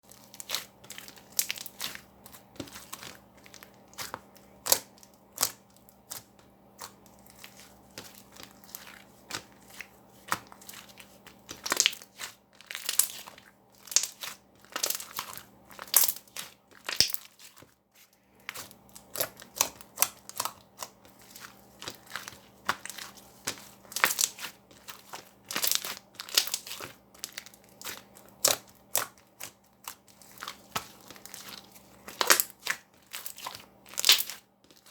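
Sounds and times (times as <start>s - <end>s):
slime squished by hand: 0.2s - 17.6s, 18.4s - 34.9s.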